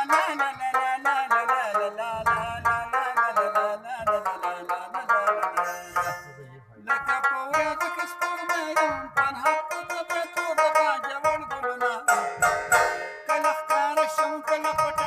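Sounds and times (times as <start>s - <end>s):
plucked lute notes: 0.0s - 15.0s.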